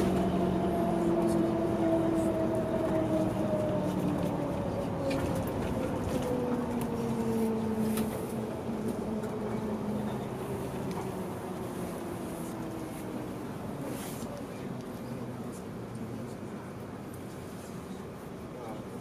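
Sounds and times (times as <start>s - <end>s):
bus drivetrain whine: 0.0s - 19.0s
road rumble: 0.0s - 19.0s.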